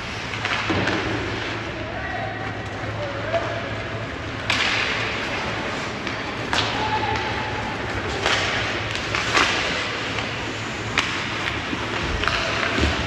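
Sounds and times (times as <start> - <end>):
skates on ice: 0.0 - 13.0
puck and sticks hitting boards: 0.1 - 3.6, 4.2 - 13.0.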